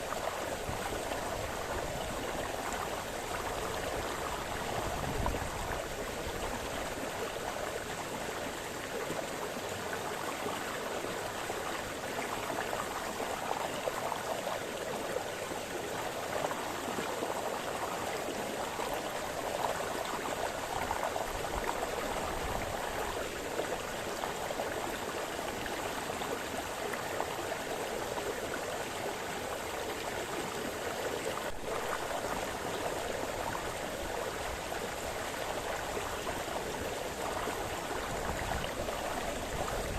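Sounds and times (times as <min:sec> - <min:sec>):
brook burbling over stones: 0:00.0 - 0:39.9.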